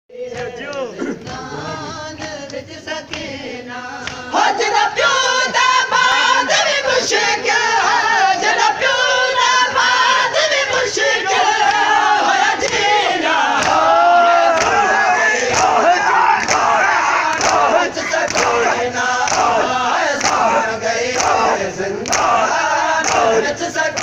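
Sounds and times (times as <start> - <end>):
crowd of men chanting: 0.1 - 24.0.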